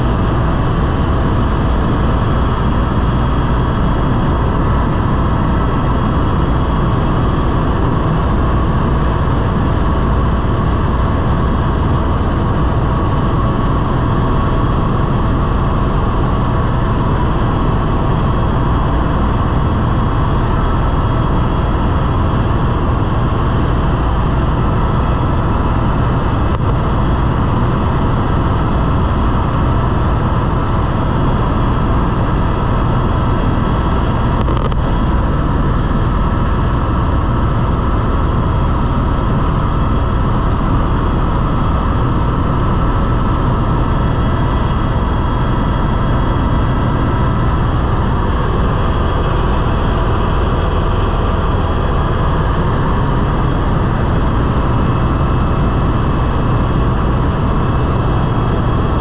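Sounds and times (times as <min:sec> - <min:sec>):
constant whine: 0:00.0 - 0:59.0
helicopter engine and rotor drone: 0:00.0 - 0:59.0.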